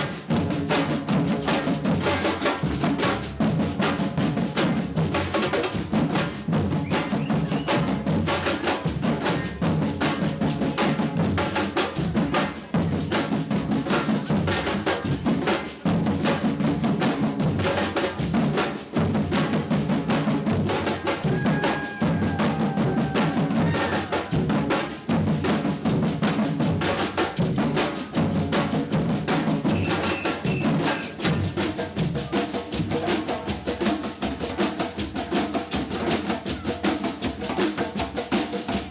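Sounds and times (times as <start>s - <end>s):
samba percussion band: 0.0s - 38.9s.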